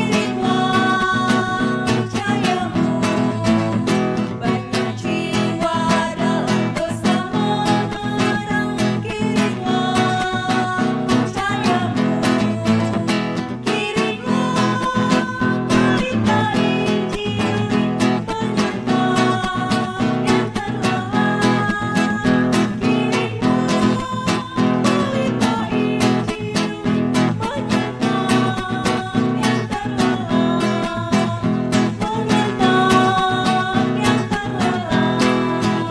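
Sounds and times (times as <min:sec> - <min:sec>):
strummed acoustic guitar: 0:00.0 - 0:35.9
women singing a hymn: 0:00.0 - 0:35.9.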